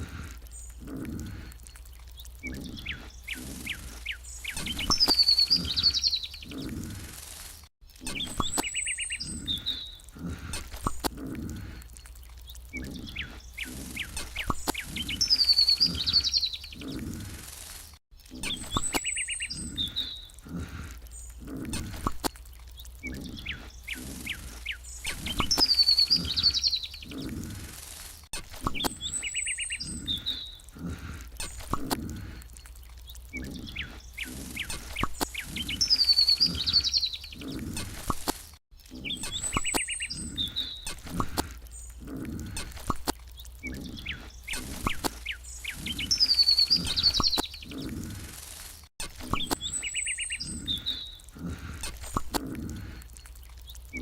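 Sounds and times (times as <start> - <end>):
birds chirping: 0.0 - 54.0
low animal grunts: 0.0 - 54.0.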